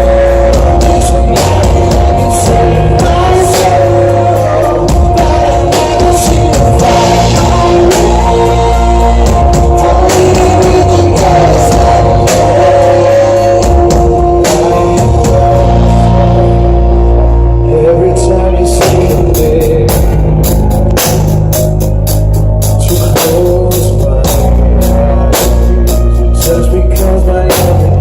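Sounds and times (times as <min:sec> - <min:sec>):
heavy bass: 0:00.0 - 0:28.0.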